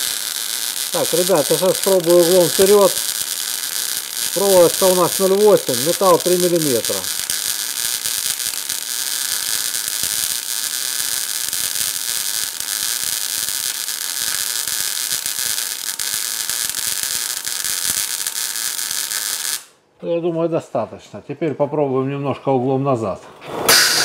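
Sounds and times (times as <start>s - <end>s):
welding arc crackling hiss: 0.0s - 19.8s, 23.7s - 24.0s.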